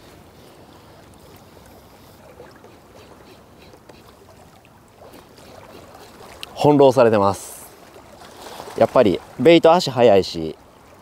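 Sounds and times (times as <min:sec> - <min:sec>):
moving water: 0:00.0 - 0:11.0.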